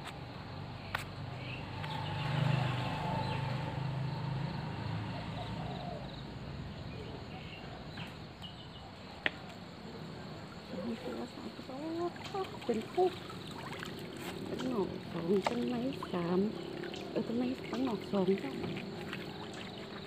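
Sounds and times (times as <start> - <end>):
insects: 0.0 - 20.0
birds chirping: 0.8 - 20.0.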